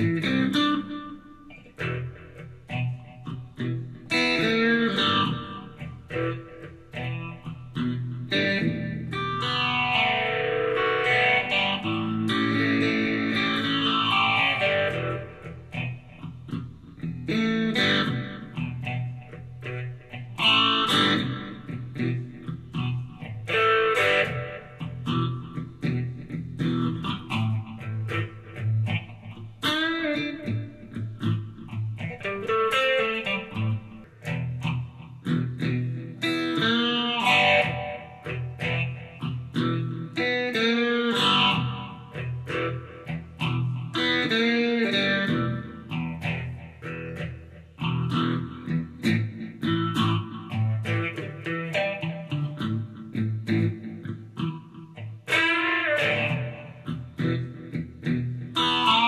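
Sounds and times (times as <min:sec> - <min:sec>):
guitar-led background music: 0:00.0 - 0:59.0.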